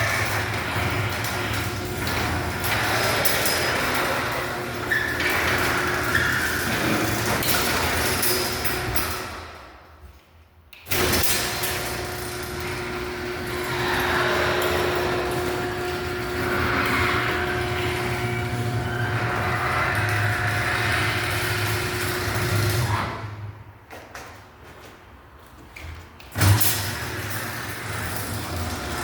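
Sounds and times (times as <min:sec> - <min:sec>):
garage door opener running: 0:00.0 - 0:09.9, 0:10.8 - 0:24.2, 0:26.2 - 0:29.0.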